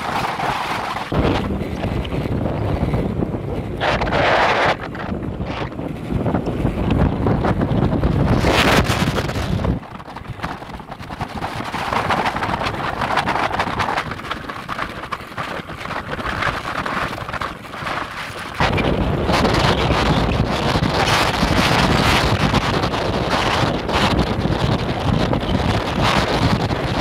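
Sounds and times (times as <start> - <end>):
motorcycle road noise: 0.0 - 27.0
wind rushing over microphone: 0.0 - 27.0.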